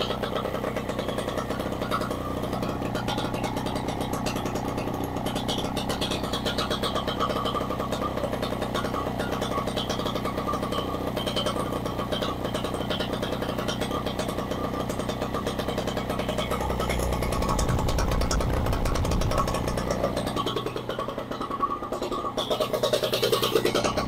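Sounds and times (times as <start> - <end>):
engine running with rapid firing: 0.0 - 24.0.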